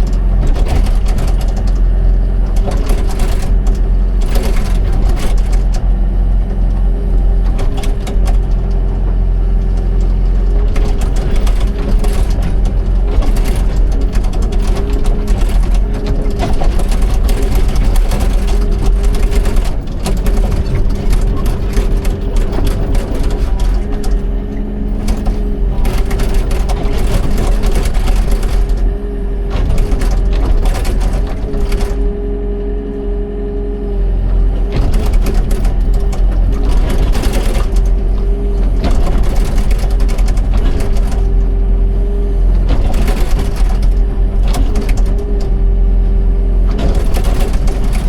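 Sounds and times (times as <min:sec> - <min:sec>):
excavator diesel engine running: 0:00.0 - 0:48.0
mechanical clatter: 0:00.0 - 0:48.0.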